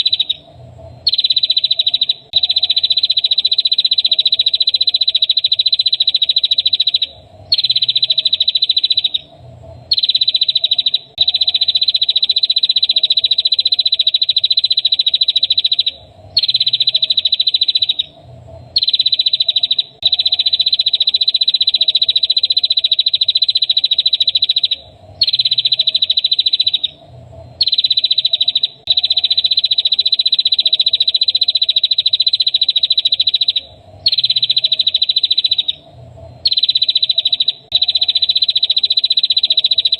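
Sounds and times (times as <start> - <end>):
faint low hum: 0.0 - 39.9
high buzzing bird trill: 0.0 - 39.9.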